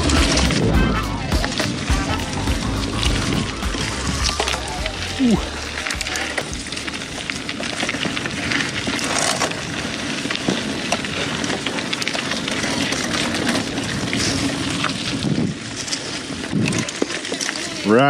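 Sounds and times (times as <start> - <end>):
bike rattling: 0.0 - 18.0
bike tyres crunching on dirt: 0.0 - 18.0.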